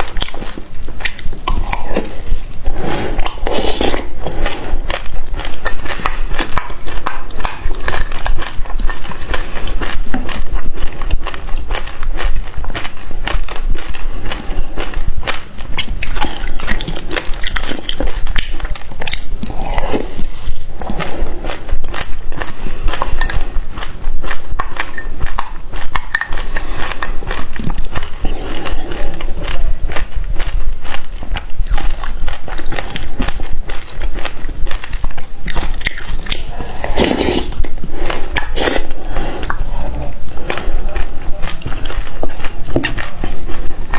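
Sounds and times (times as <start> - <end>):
fruit seeds crunching: 0.0 - 43.9
mouth clicks and smacks: 0.0 - 43.9
wet biting and chewing: 0.0 - 43.9.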